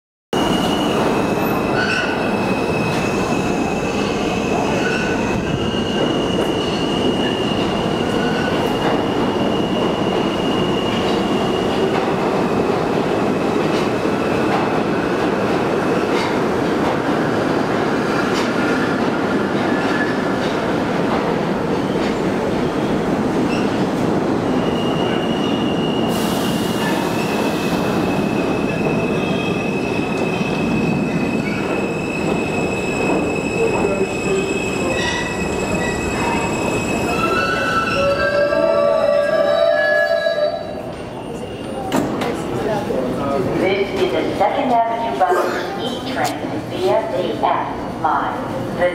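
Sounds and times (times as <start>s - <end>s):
subway train wheels rumbling: 0.4s - 48.9s.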